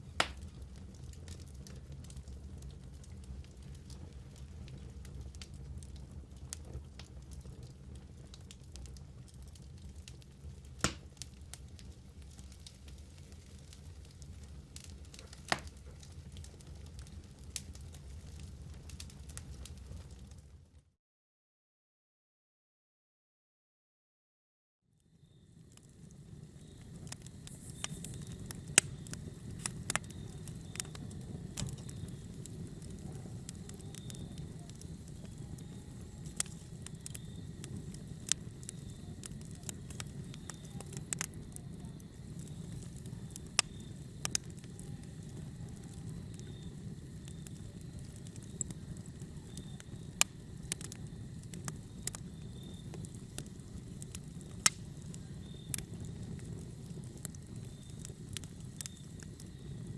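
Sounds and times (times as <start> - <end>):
fire crackling and popping: 0.0 - 20.9, 25.0 - 59.9
fire rumbling: 0.0 - 20.9, 25.0 - 59.9.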